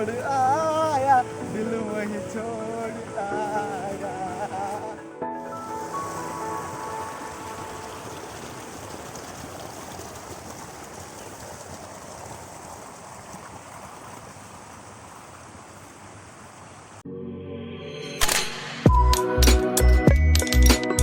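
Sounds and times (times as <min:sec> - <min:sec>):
rushing river water: 0:00.0 - 0:17.0.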